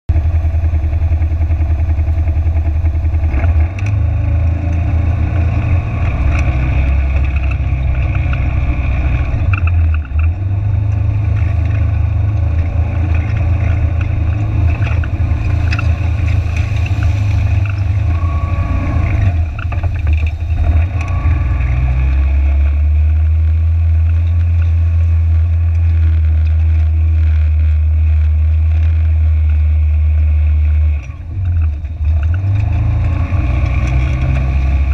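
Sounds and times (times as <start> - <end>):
vehicle engine droning under load: 0.0 - 34.9
water and gravel under wheels: 0.1 - 34.9.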